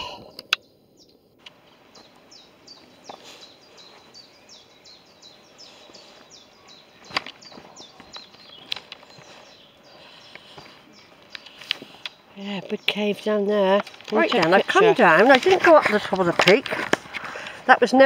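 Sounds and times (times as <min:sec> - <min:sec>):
footsteps on dirt and stone path: 0:01.5 - 0:18.0.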